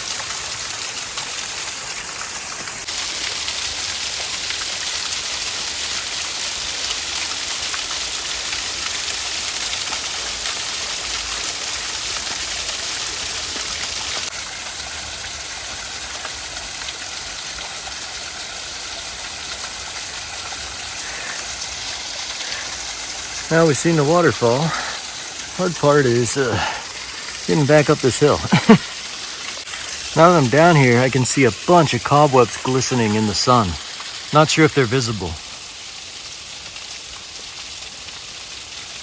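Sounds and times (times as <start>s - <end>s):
waterfall splashing into pool: 0.0s - 39.0s.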